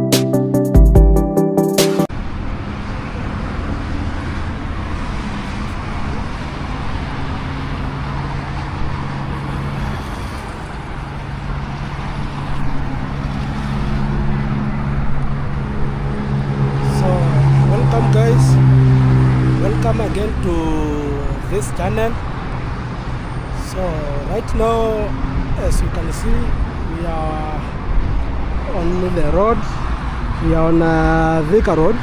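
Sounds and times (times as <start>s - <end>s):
highway traffic passing: 2.0s - 32.0s
low engine hum: 2.2s - 30.3s.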